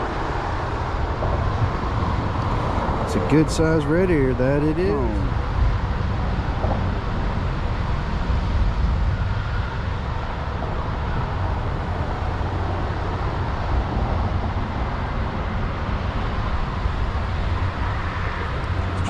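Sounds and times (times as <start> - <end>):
outdoor rumble: 0.0 - 7.8, 11.3 - 19.0.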